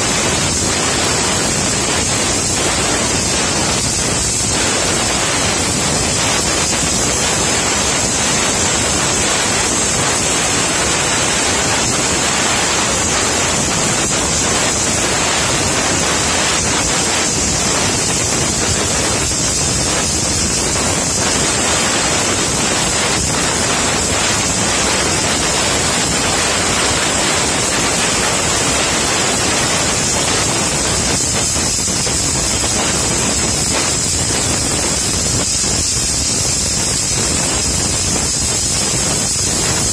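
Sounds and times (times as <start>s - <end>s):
high-pitched hiss: 0.0s - 39.9s
plasma cutter hissing: 0.0s - 39.9s.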